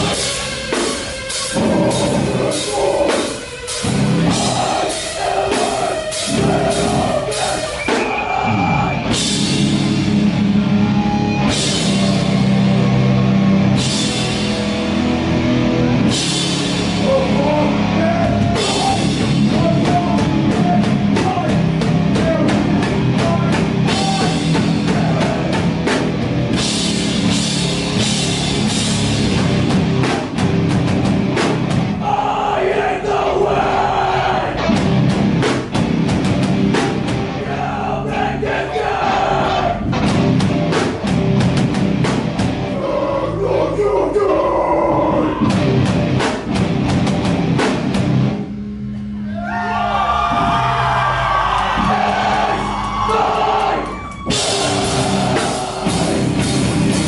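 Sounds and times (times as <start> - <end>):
rock drum kit: 0.0 - 32.8, 33.7 - 43.7, 44.4 - 48.9, 50.2 - 57.0
distorted electric guitars: 0.0 - 57.0.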